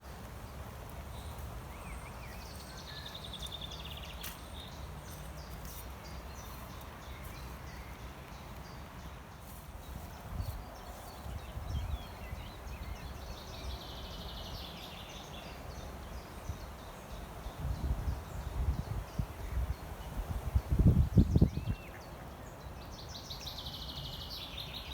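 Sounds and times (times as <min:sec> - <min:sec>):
songbirds singing: 0:00.0 - 0:24.9.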